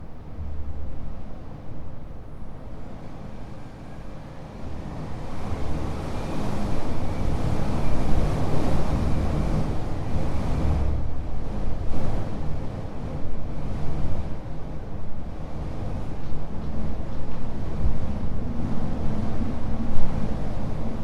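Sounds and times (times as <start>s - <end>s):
high wind gusting: 0.0s - 21.0s.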